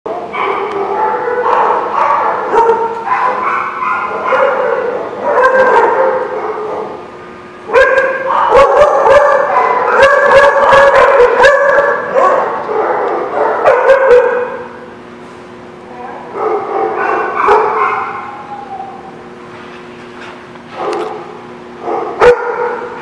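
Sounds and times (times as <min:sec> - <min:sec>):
dogs barking and yipping: 0:00.2 - 0:07.0, 0:07.7 - 0:14.7, 0:16.3 - 0:19.2, 0:20.7 - 0:23.0.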